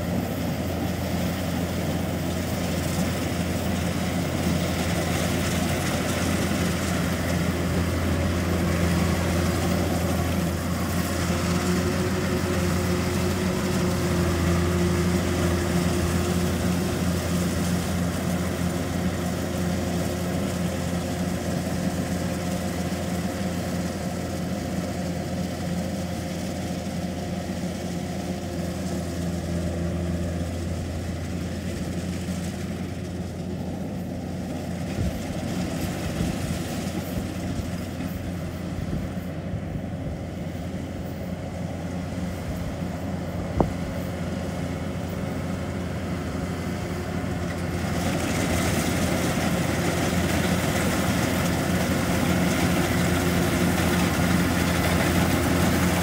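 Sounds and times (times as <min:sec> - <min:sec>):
combine harvester engine running: 0:00.0 - 0:56.0.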